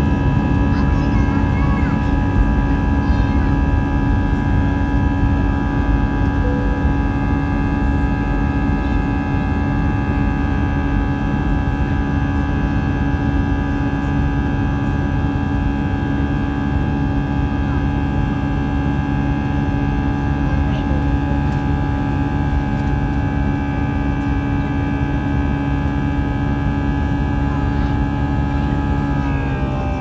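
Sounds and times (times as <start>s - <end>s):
held engine tones: 0.0s - 30.0s
jet engine cabin rumble: 0.0s - 30.0s.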